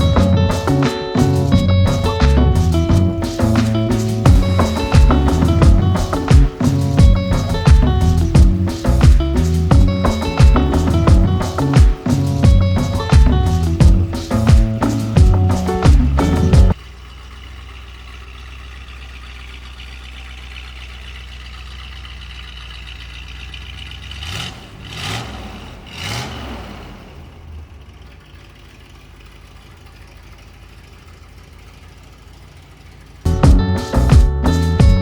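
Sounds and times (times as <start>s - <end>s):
engine idling and revving: 0.0s - 35.0s.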